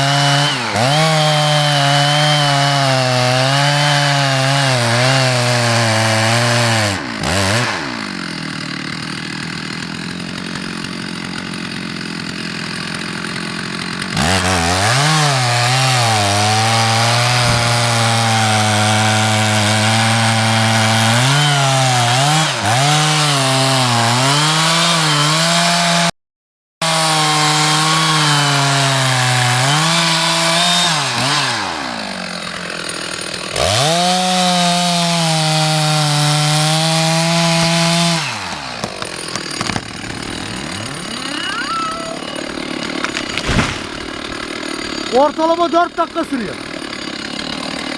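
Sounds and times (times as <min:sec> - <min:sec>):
chainsaw cutting wood: 0:00.0 - 0:26.2, 0:26.8 - 0:47.9.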